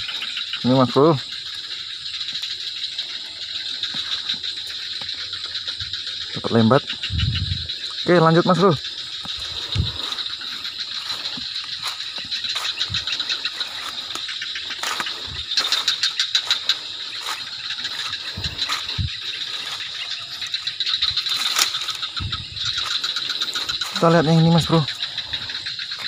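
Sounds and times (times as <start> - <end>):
crickets trilling: 0.0 - 26.0
fast pulsing insect call: 0.0 - 26.0.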